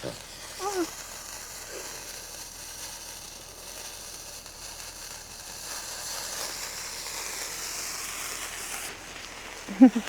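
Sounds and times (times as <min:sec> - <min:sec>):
sizzling hiss: 0:00.0 - 0:10.0.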